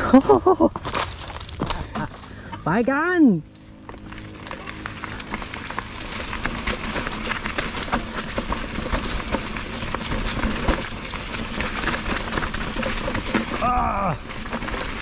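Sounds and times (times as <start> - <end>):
bike tyres rolling on wet soil: 0.0 - 2.5, 3.6 - 15.0
bike rattling over bumps: 0.0 - 15.0.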